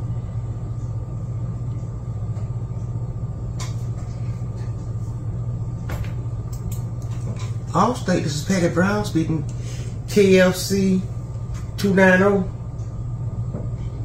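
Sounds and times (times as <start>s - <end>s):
low machinery hum: 0.0s - 14.0s.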